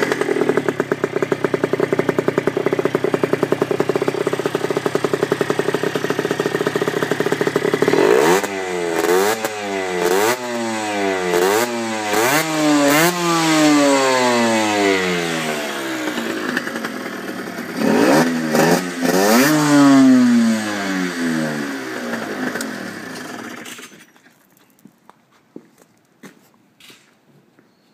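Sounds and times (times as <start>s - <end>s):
two-stroke engine revving: 0.0s - 23.8s.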